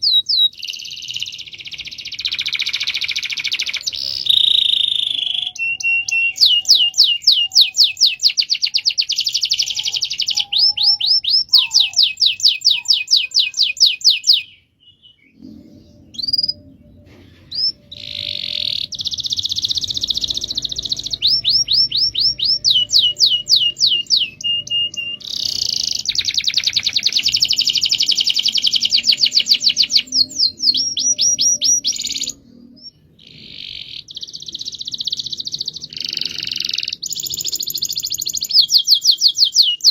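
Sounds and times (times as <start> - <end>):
canary singing rolls and trills: 0.0 - 39.9.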